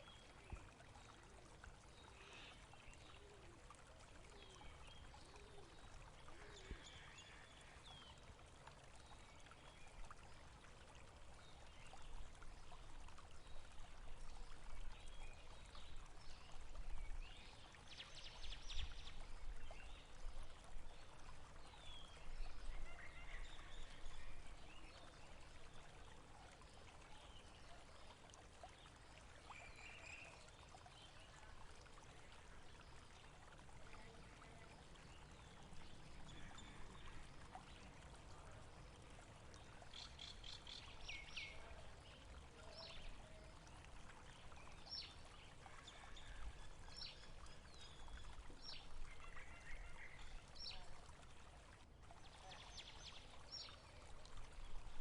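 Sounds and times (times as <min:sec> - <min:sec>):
faint flowing water: 0:00.0 - 0:55.0.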